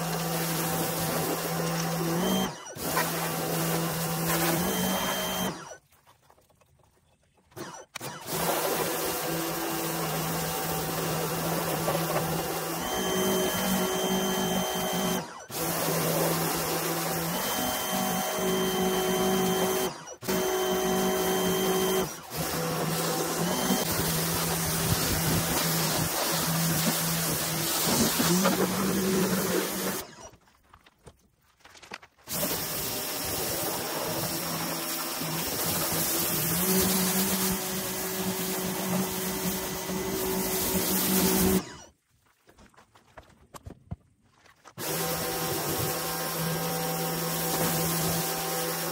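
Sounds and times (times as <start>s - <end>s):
pressure washer motor and pump: 0.0s - 5.8s, 7.5s - 30.4s, 32.3s - 41.9s, 44.8s - 48.9s.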